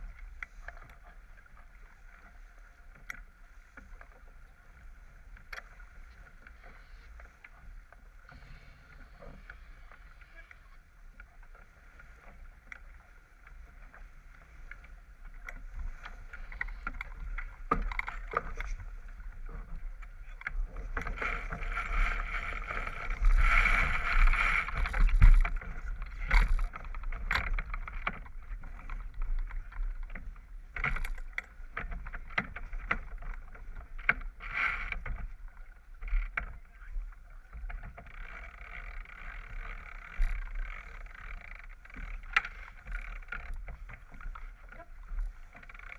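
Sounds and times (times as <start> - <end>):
water rushing along hull: 0.0 - 45.9
wind: 0.0 - 45.9.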